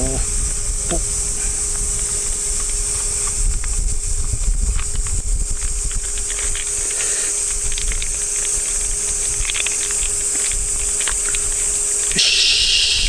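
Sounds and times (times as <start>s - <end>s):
cicadas chorus: 0.0s - 13.0s
wind rumble on microphone: 0.0s - 13.0s.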